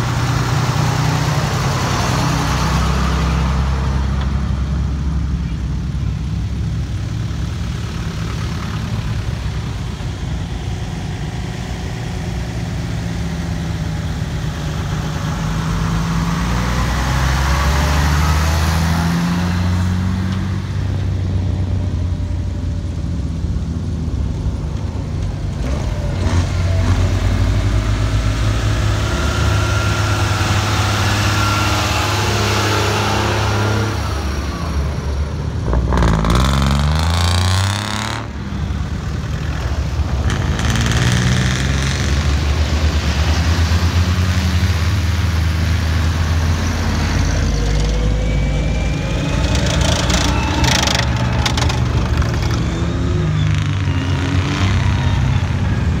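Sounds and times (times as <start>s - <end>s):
vehicles driving past on grass: 0.0s - 56.0s.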